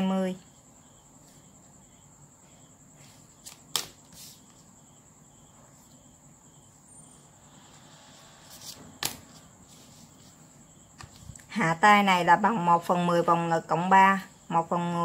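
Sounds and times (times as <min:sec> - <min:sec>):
faint high whine: 0:00.0 - 0:12.5.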